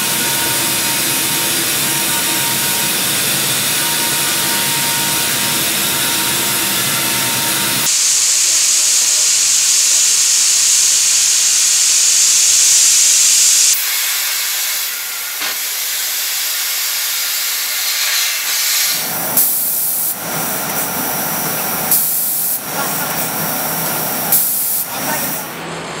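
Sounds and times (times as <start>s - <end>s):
cutting torches hissing: 0.0s - 25.6s.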